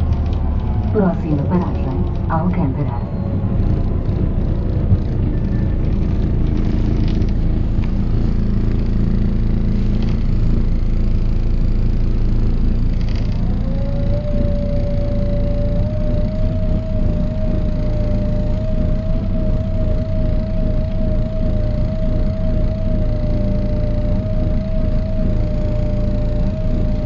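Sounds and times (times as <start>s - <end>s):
bus diesel engine rumble: 0.0s - 27.0s
gearbox whine: 0.0s - 27.0s.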